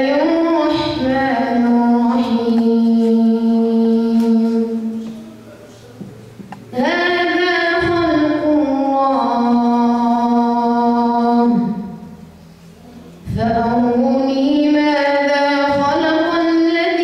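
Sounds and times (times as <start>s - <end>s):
boy chanting into a microphone: 0.0s - 5.5s, 6.7s - 12.2s, 13.2s - 17.0s.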